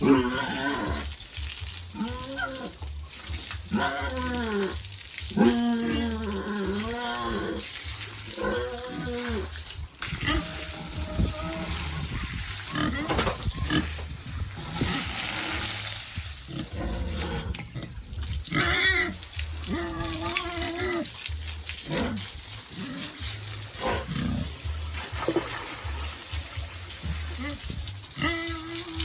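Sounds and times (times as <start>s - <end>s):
pigs grunting and squealing: 0.0s - 1.3s, 1.9s - 24.8s, 26.8s - 29.0s.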